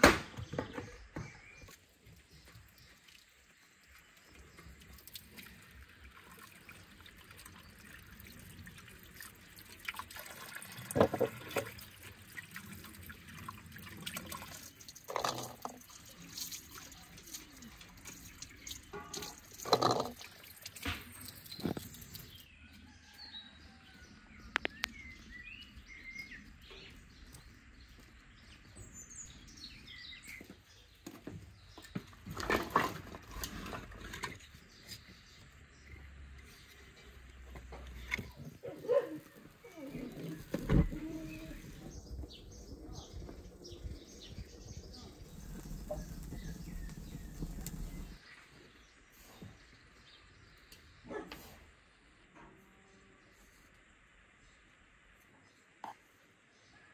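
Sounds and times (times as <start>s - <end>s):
birds chirping faintly: 0.3s - 52.2s.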